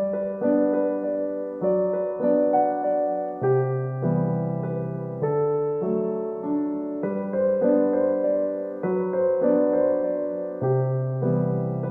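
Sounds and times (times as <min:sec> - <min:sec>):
piano playing slow chords: 0:00.0 - 0:11.9.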